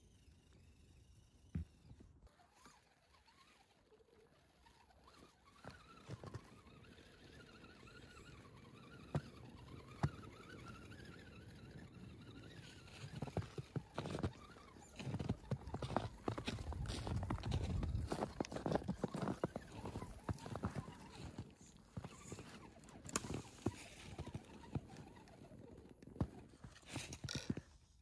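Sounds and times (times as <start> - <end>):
toy truck electric motor whining: 0.0 - 28.0.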